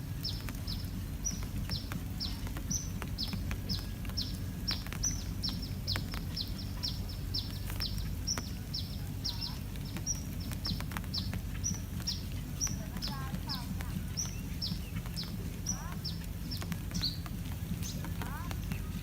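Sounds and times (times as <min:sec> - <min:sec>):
bird chirping: 0:00.0 - 0:19.0
steady low rumble: 0:00.0 - 0:19.0.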